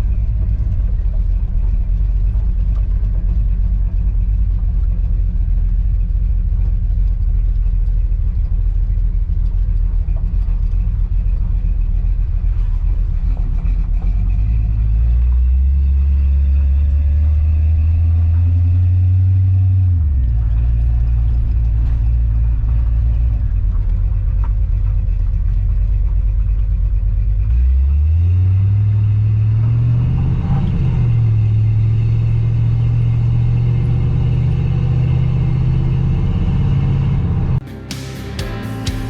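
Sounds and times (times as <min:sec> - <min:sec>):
pickup engine rumbling: 0:00.0 - 0:39.0.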